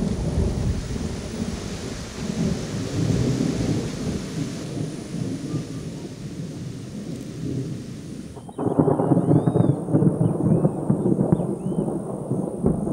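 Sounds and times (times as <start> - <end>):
rain: 0.0 - 12.9
rumbling thunder: 0.0 - 12.9.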